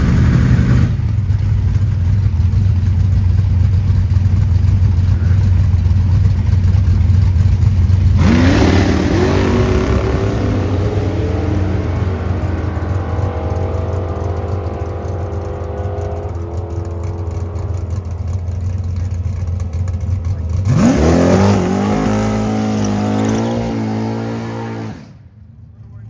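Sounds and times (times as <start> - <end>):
drag racing car engine revving: 0.0 - 25.4.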